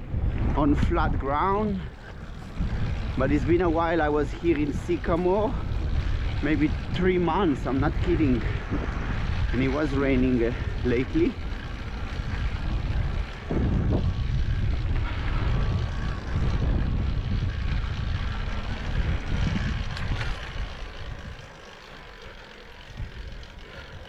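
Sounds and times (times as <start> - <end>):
tyres on dirt trail: 0.0 - 24.0
wind on microphone: 0.0 - 24.0.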